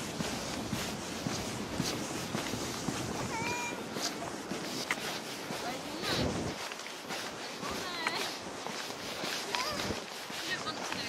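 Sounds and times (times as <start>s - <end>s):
footsteps on concrete: 0.0s - 11.0s.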